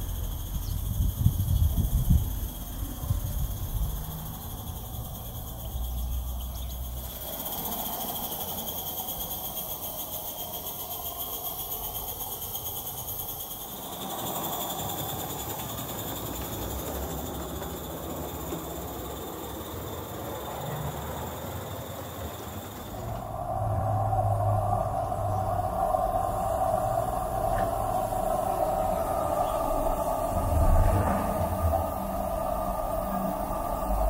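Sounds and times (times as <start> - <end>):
wheels on rails: 0.0 - 34.0
steam hissing: 2.0 - 34.0.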